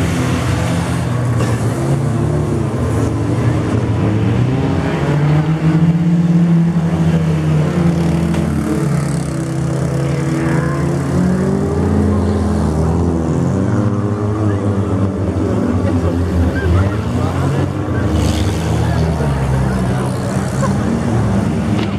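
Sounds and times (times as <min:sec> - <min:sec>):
car engines revving: 0:00.0 - 0:21.9.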